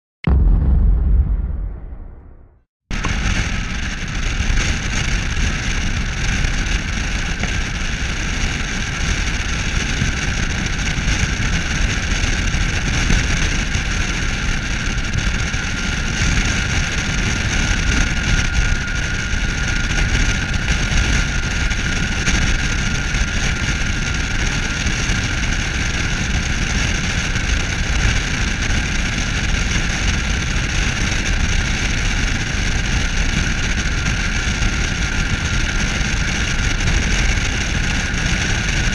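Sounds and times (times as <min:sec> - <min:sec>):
wind and road noise: 0:00.3 - 0:38.9.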